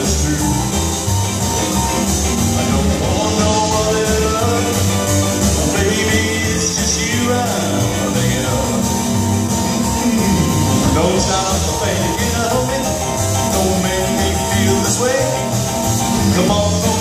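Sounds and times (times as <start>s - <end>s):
live rock and roll band: 0.0s - 17.0s.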